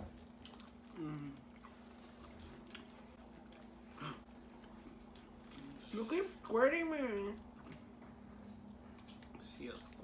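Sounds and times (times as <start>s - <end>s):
wet chewing and lip-smacking: 0.0s - 10.0s.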